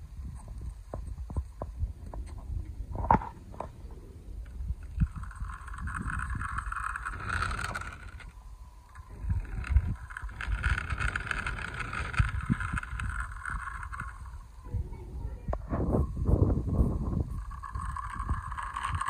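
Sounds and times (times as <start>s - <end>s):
toy car wheels rolling on concrete: 0.0s - 19.0s
wind rumble on microphone: 0.0s - 19.0s.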